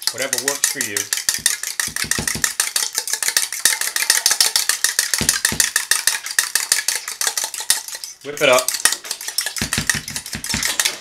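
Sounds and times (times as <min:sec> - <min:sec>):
whisk clicking against metal bowl: 0:00.0 - 0:11.0.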